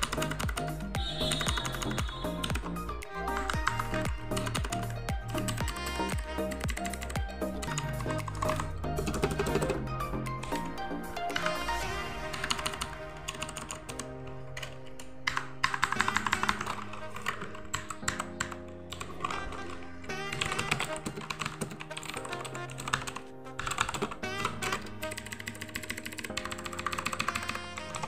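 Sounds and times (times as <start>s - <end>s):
mechanical keyboard typing: 0.0s - 9.8s, 12.3s - 14.0s, 14.6s - 28.0s
background music: 0.0s - 28.0s.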